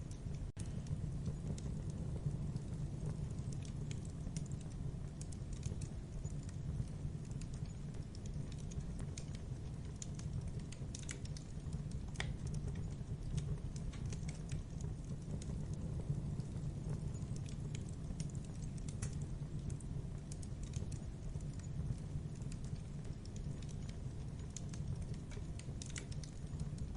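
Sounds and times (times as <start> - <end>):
low rumble of flames: 0.0 - 26.9
wood fire crackling: 0.0 - 26.9.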